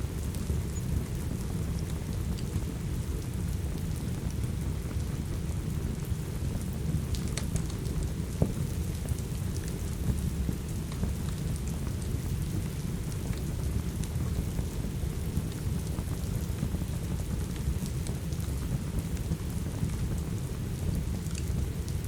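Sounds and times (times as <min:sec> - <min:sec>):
steady rain: 0:00.0 - 0:22.0
wood fire crackling and popping: 0:00.1 - 0:22.0.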